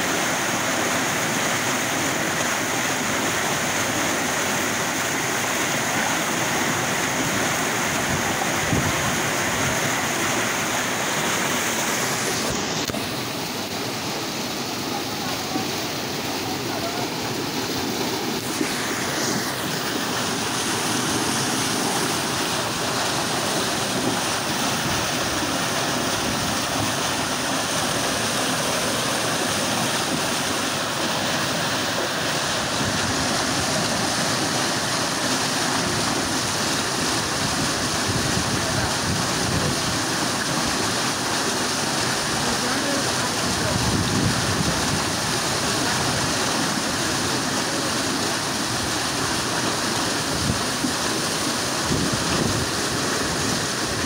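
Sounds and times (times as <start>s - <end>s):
water gushing and splashing: 0.0s - 54.0s.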